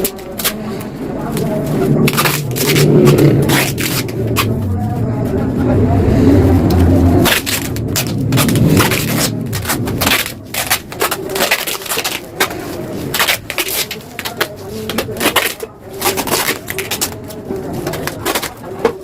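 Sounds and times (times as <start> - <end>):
low engine rumble: 0.1 - 19.0.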